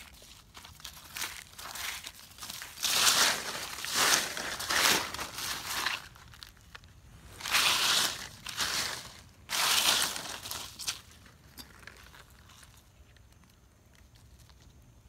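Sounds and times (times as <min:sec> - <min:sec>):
dry leaves crunching: 0:00.0 - 0:13.0.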